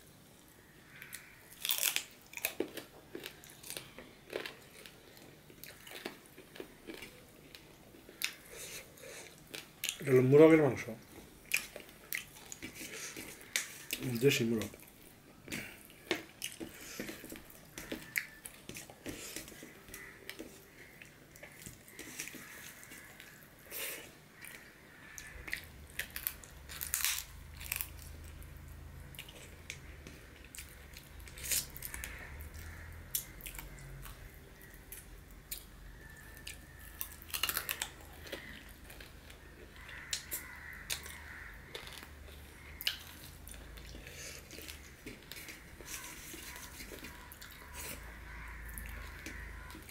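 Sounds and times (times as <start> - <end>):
chewing and wet mouth sounds: 0.9 - 10.0, 11.0 - 49.9.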